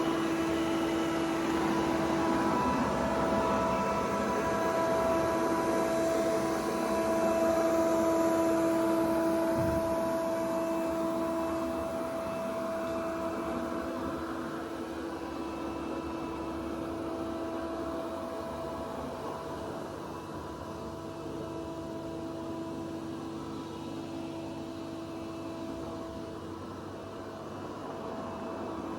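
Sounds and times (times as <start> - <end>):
robot vacuum cleaner running: 0.0 - 28.9.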